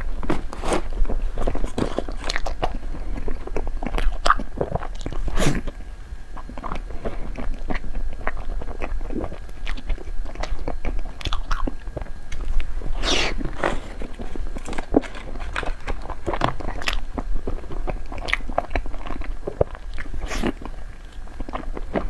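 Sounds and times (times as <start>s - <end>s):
biting and chewing: 0.0s - 22.0s.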